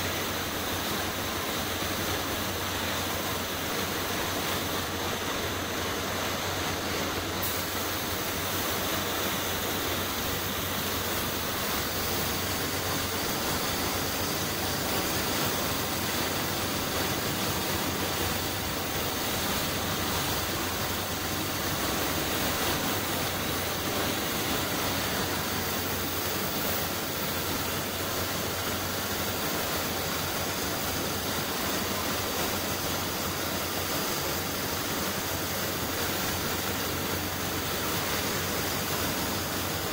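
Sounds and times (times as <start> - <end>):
paint spray gun hissing: 0.0 - 39.9.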